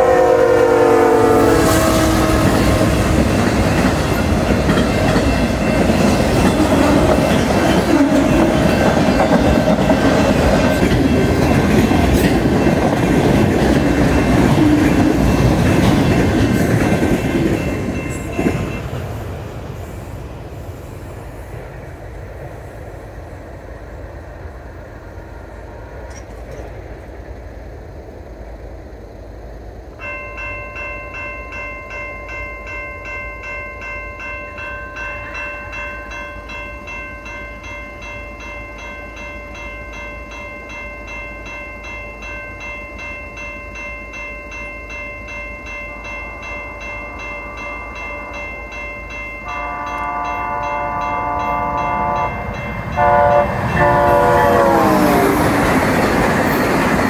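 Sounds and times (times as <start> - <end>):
high ringing tones: 0.0 - 19.2, 30.0 - 57.0
freight train rumbling past: 0.0 - 57.0.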